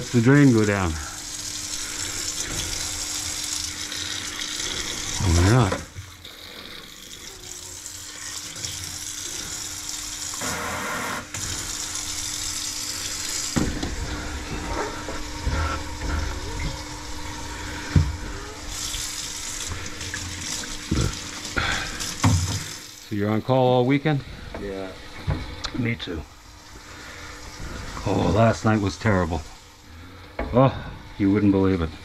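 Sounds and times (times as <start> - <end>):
water running into sink drain: 0.0 - 32.0.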